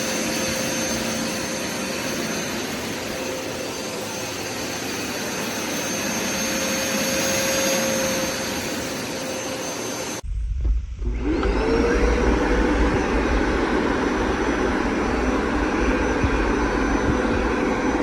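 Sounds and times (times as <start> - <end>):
carpet cleaner running: 0.0 - 10.3, 11.0 - 18.0
high motor whine: 0.0 - 18.0.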